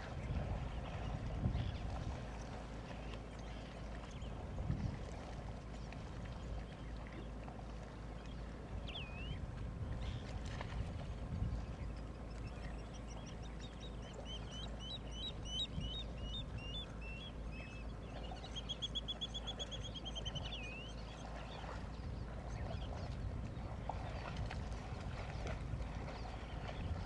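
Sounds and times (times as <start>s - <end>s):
songbird singing: 0.0s - 4.6s, 5.6s - 10.7s, 11.4s - 27.0s
low background rumble: 0.0s - 27.0s.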